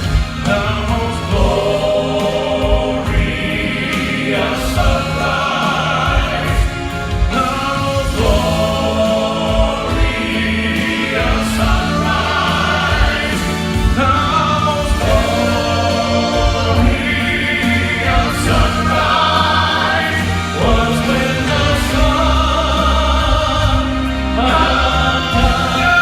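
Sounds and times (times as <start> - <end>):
instrumental accompaniment: 0.0 - 26.0
vocal quartet singing in harmony: 0.0 - 26.0.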